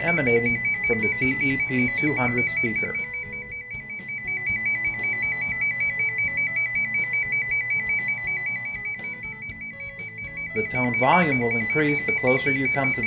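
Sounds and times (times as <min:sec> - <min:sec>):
high two-note electronic warble: 0:00.0 - 0:13.0.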